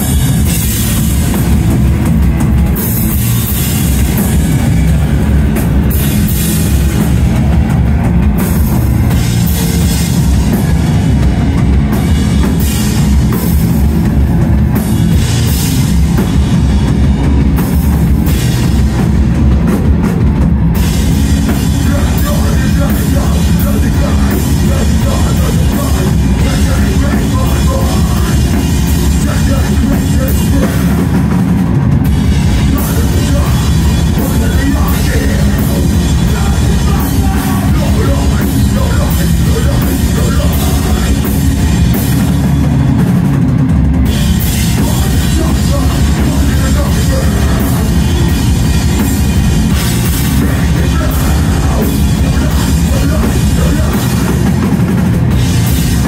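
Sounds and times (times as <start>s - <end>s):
metal band playing: 0.0s - 56.0s
pounding drum kit: 0.0s - 56.0s.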